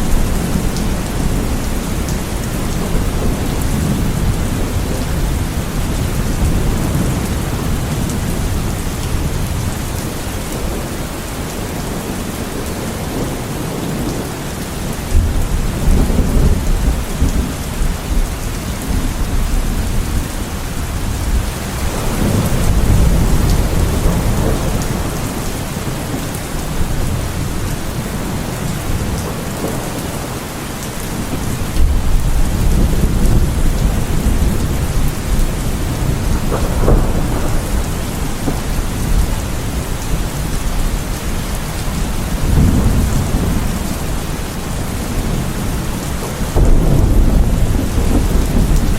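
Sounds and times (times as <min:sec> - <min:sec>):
thunder rolling: 0:00.0 - 0:10.9, 0:15.1 - 0:30.4, 0:31.0 - 0:48.9
heavy rain: 0:00.0 - 0:48.9.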